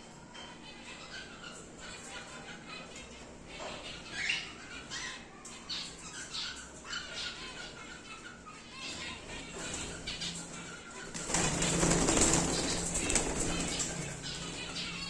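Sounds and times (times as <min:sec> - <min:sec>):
cockatiels chirping and squawking: 0:00.3 - 0:15.0.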